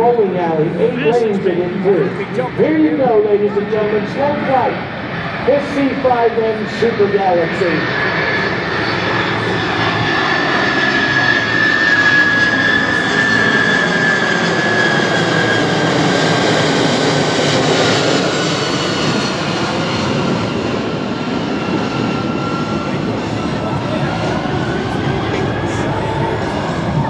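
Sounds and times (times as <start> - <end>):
high engine whine: 0.0 - 27.0
jet rumble: 0.0 - 27.0.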